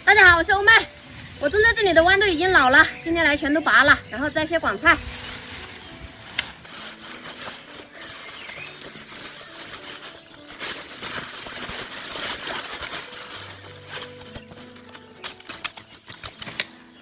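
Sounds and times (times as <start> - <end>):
dry vines rustling and crackling: 0.0 - 17.0.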